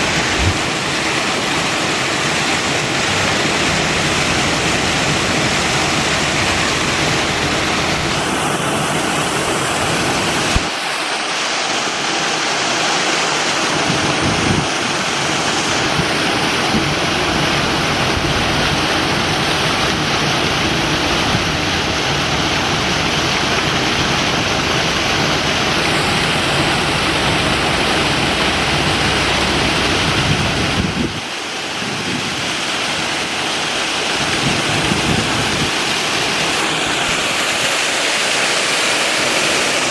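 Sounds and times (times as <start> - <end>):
water rushing and splashing: 0.0 - 39.9.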